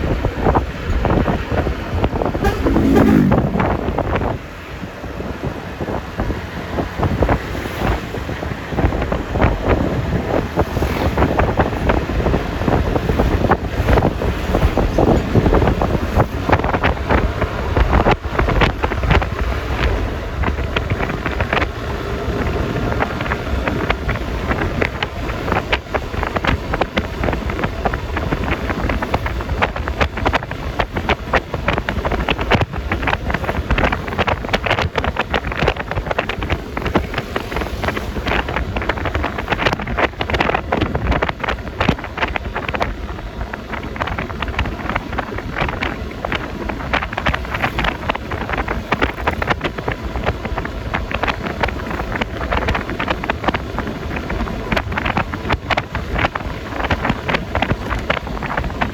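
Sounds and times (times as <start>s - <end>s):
scooter engine and tyres: 0.0s - 58.9s
wind buffeting microphone: 0.0s - 58.9s.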